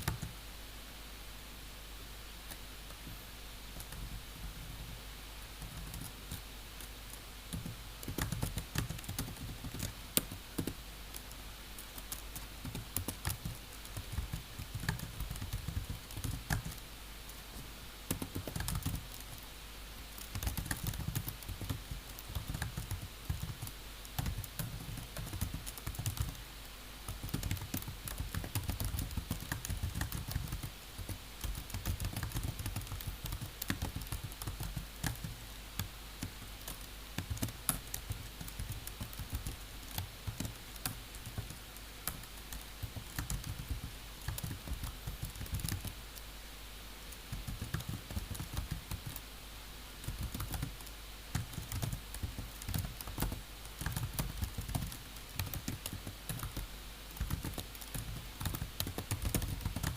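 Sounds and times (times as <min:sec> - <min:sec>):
typing on computer keyboard: 0:05.6 - 0:06.9, 0:07.5 - 0:16.8, 0:18.1 - 0:19.4, 0:20.2 - 0:26.4, 0:27.1 - 0:46.0, 0:47.1 - 0:49.2, 0:50.0 - 0:50.8, 0:51.4 - 0:59.9.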